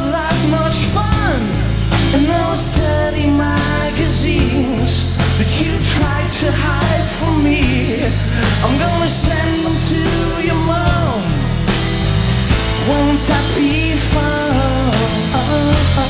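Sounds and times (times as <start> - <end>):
electric guitars: 0.0 - 16.0
live rock band playing: 0.0 - 16.0
sustained bass notes: 0.0 - 16.0.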